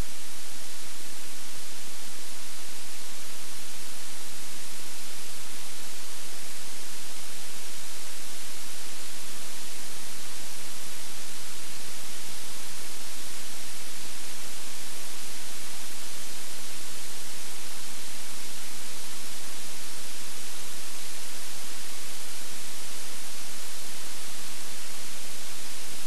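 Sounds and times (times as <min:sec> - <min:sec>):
faint low hum: 0:00.0 - 0:26.0
recording hiss: 0:00.0 - 0:26.0.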